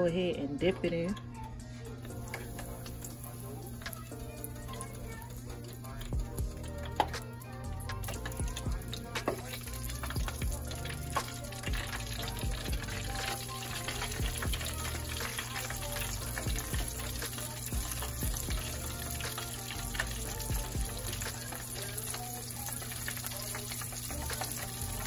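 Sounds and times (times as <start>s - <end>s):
food deep-frying in hot oil: 2.0s - 25.0s.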